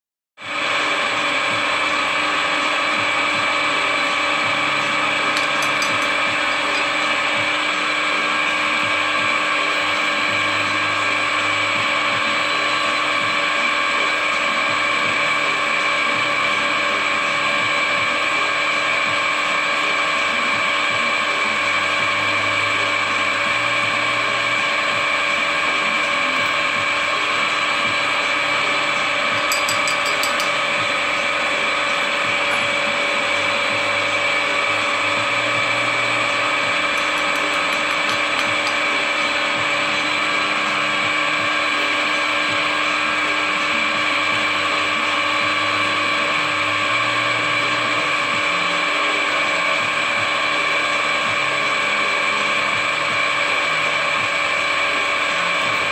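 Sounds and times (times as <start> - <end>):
drill press gear whine: 0.4 - 55.9.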